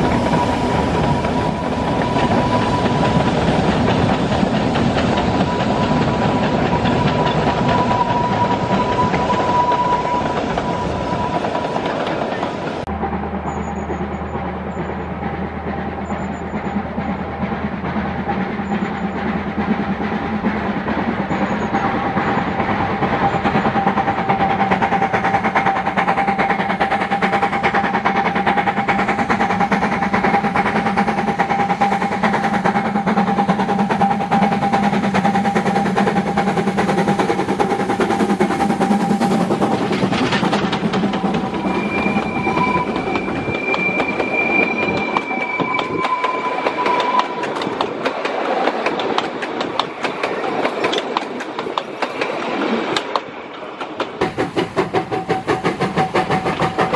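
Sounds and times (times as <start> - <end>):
wheel squeals: 0.0 - 19.5, 21.2 - 25.0, 25.6 - 51.2
steam train running: 0.0 - 56.9
wheels clacking over rail joints: 0.0 - 56.9.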